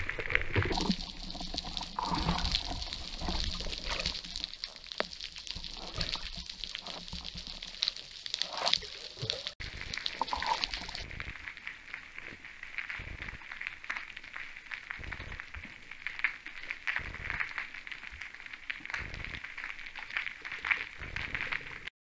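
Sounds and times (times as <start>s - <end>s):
faint clicks and crackles: 0.0s - 21.9s
underwater water noise: 0.0s - 21.9s.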